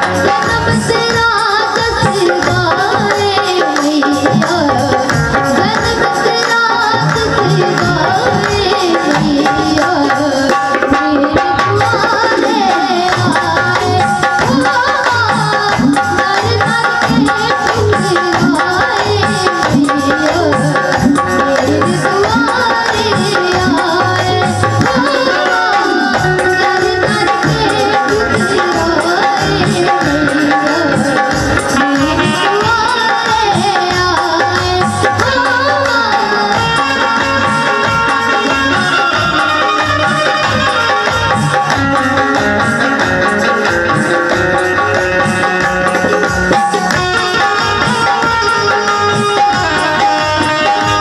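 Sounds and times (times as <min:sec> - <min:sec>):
accompanying instruments: 0:00.0 - 0:51.0
hand drum rhythm: 0:00.0 - 0:51.0
person singing devotional song: 0:00.0 - 0:51.0.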